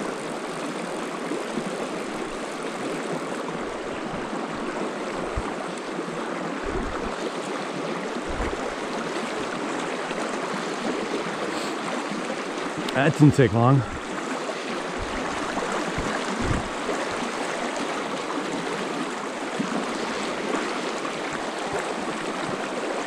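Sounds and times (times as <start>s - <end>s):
stream rushing over riffles: 0.0s - 23.0s.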